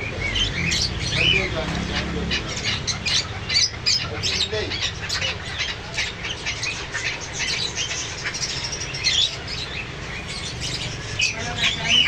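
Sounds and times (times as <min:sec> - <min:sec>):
parrots chirping and calling: 0:00.0 - 0:12.0.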